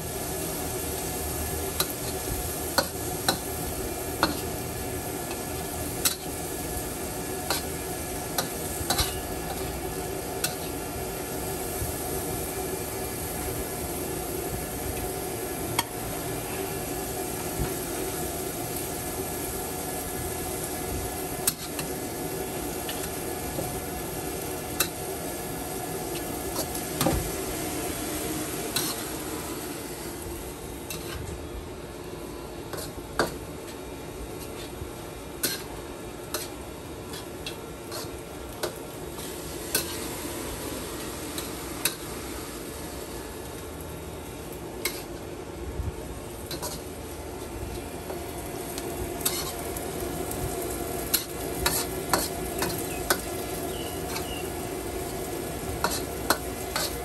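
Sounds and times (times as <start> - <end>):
noodles sizzling in a wok: 0.0 - 57.0.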